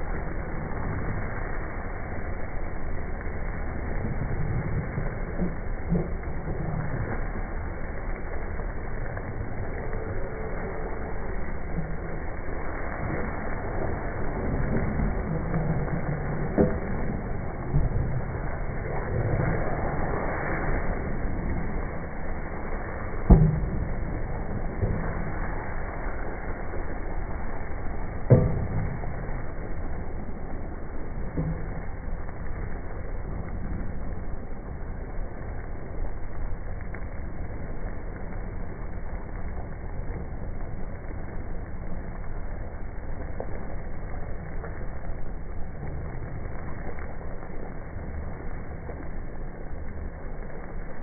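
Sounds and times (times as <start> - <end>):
pot cooking low noise: 0.0 - 51.0.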